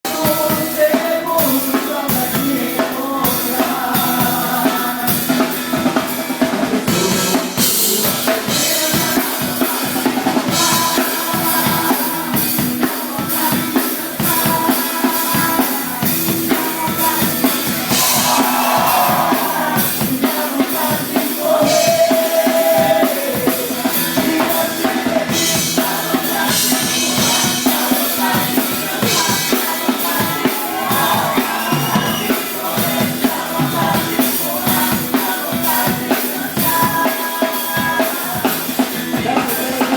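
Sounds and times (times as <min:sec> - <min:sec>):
drum kit beating: 0:00.0 - 0:39.9
live band playing: 0:00.0 - 0:39.9.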